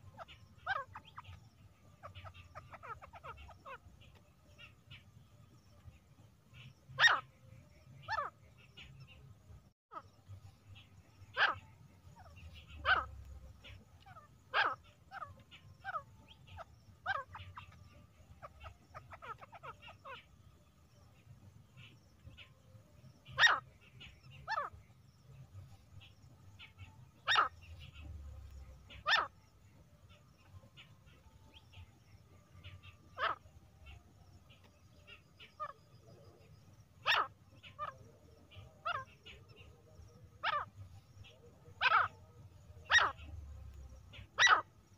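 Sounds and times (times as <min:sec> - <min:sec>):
francolin calling: 0:00.0 - 0:09.3, 0:09.9 - 0:44.9.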